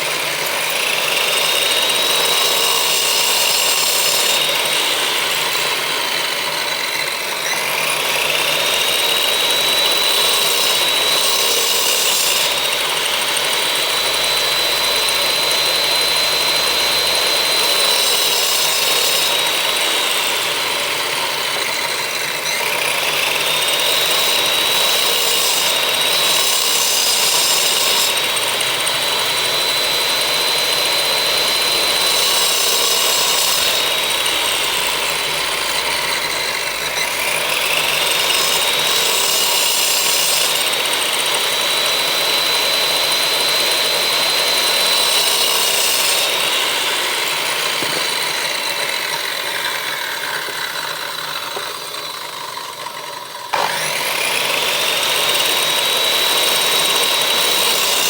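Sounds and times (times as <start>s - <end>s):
power tool motor whine: 0.0s - 58.0s
wood cutting noise: 0.0s - 58.0s.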